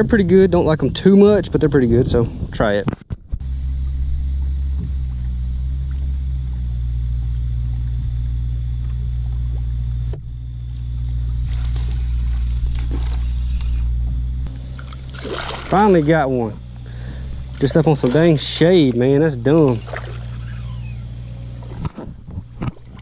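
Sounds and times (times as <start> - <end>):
low electric motor hum: 0.0 - 23.0.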